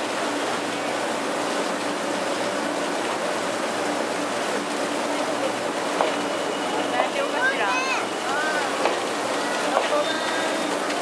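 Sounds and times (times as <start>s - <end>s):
water spraying against train: 0.0s - 11.0s.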